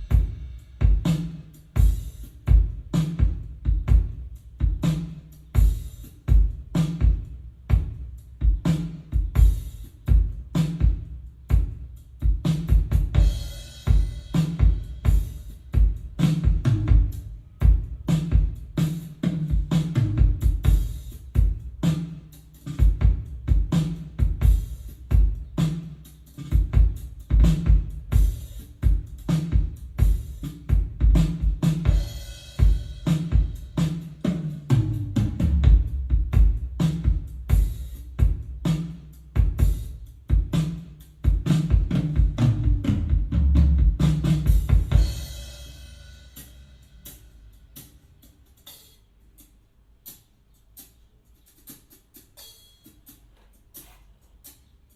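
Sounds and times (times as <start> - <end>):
drum-heavy music: 0.0 - 54.9.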